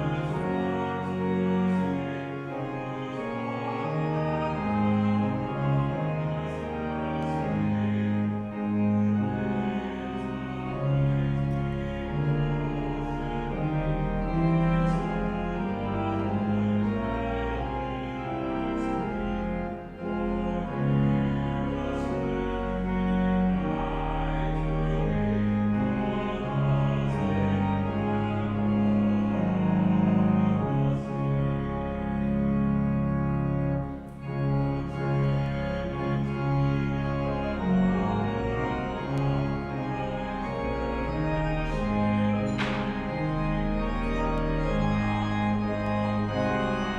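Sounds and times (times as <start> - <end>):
slow sustained instrumental music: 0.0 - 46.9.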